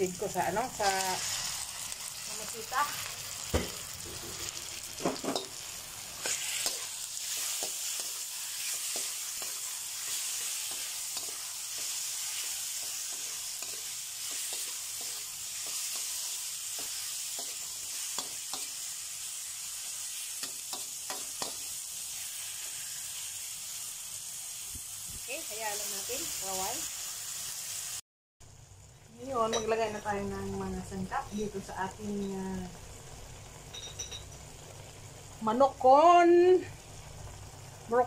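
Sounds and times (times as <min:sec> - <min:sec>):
chicken sizzling in oil: 0:00.0 - 0:38.0.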